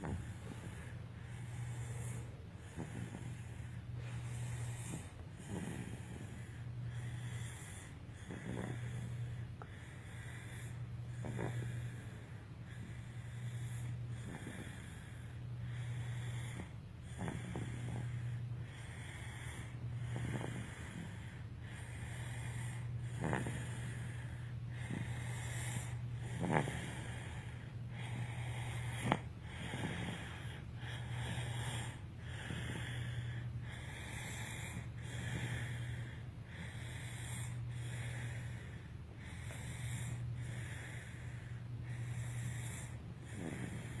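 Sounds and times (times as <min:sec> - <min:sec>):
person snoring: 0:00.0 - 0:44.0
steady low hum: 0:00.0 - 0:44.0.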